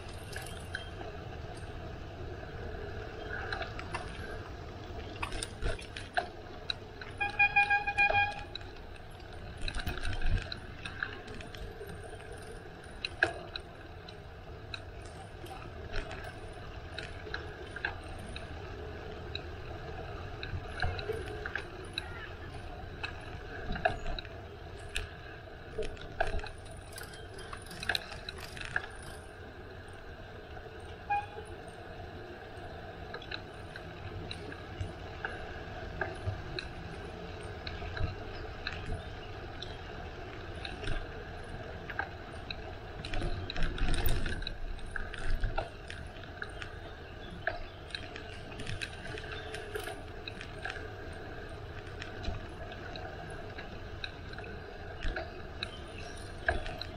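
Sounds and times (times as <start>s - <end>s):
bicycle frame rattling and clicking: 0.0s - 1.9s, 3.2s - 56.9s
low rumble of rolling tyres: 0.0s - 56.9s.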